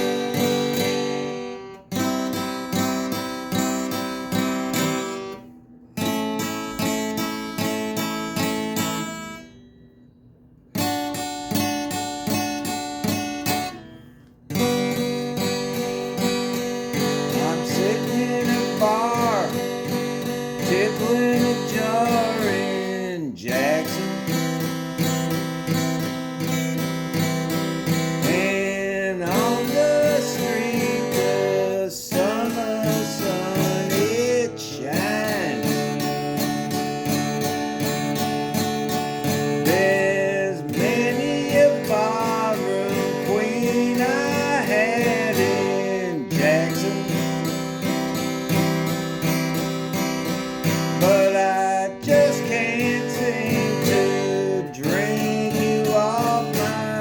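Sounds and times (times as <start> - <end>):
acoustic guitar strumming: 0.0 - 57.0
sliding guitar melody: 0.0 - 57.0.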